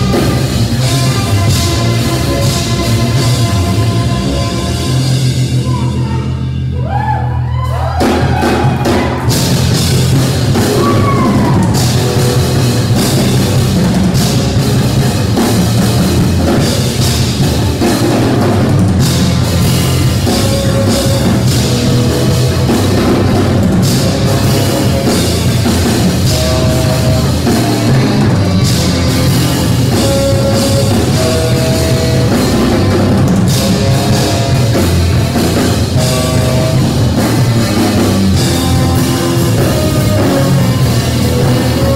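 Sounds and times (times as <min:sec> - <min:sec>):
tenor saxophone: 0:00.0 - 0:06.4, 0:09.2 - 0:41.9
drum kit: 0:00.0 - 0:41.9
electric bass: 0:00.0 - 0:41.9.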